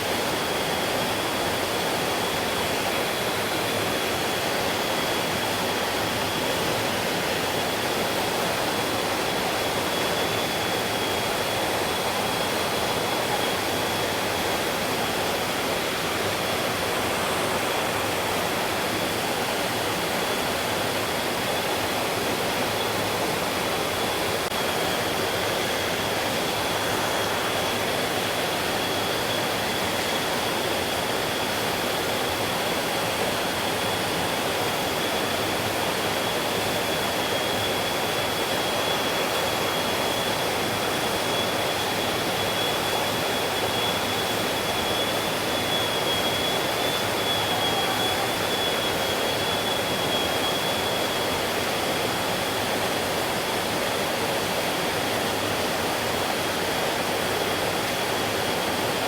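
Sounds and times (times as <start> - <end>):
thin high whine: 0.6 - 59.0.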